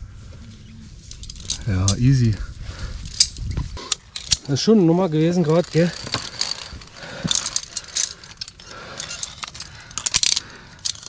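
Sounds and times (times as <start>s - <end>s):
carabiners clinking on steel cable: 1.0s - 2.4s, 3.0s - 11.0s.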